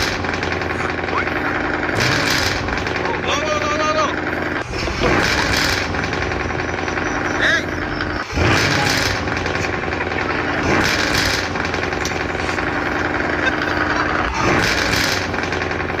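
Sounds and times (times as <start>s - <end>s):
vehicle engine rattling: 0.0s - 16.0s.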